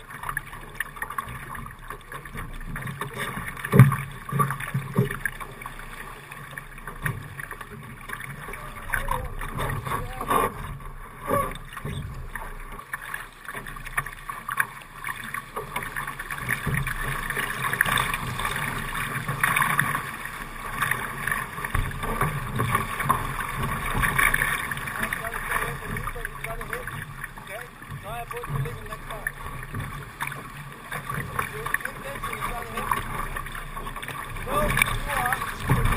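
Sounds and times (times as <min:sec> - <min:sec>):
water splashing against boat hull: 0:00.0 - 0:35.9.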